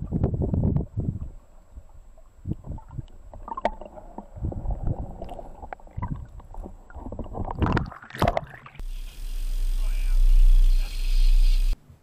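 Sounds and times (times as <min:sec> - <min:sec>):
muffled underwater water sloshing: 0:00.0 - 0:10.7.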